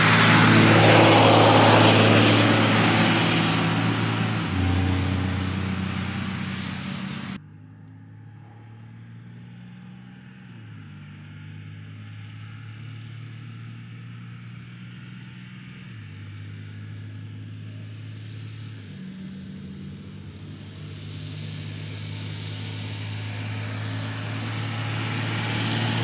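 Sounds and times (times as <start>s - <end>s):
diesel truck running: 0.0s - 12.8s, 15.9s - 26.0s.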